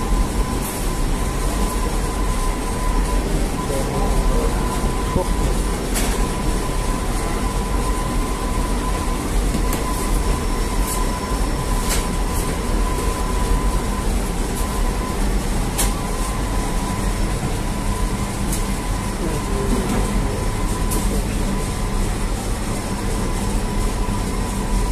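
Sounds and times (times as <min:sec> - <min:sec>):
machinery high whine: 0:00.0 - 0:24.9
machinery low rumble: 0:00.0 - 0:24.9.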